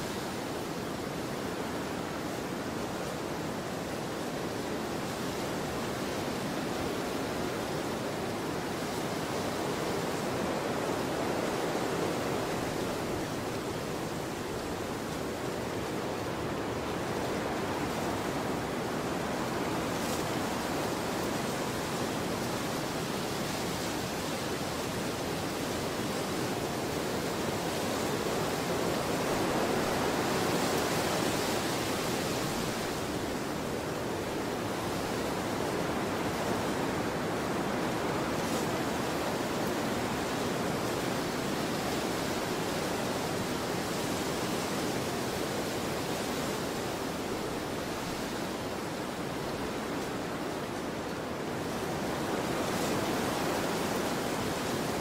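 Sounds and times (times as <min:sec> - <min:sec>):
steady rushing wind: 0:00.0 - 0:55.0.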